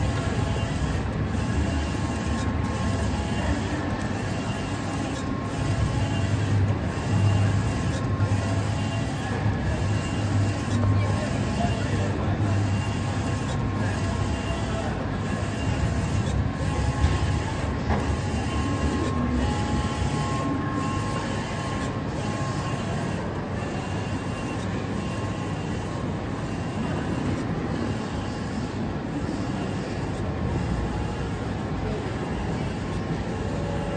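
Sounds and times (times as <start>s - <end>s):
printer mechanical whir: 0.0s - 33.9s.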